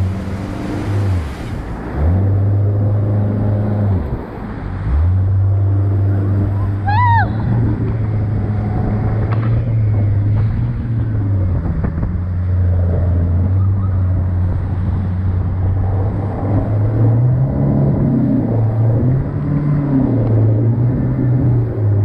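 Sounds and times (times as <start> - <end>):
boat motor droning: 0.0 - 22.0
water rushing past hull: 0.0 - 22.0.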